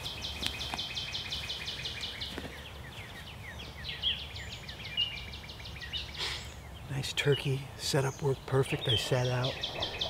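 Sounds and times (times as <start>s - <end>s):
songbird trilling: 0.0s - 10.0s.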